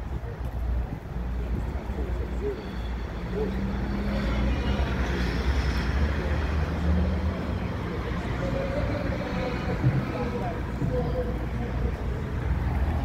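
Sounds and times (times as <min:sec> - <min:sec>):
faint voices: 0:00.0 - 0:13.0
vehicle engine rumbling: 0:00.0 - 0:13.0.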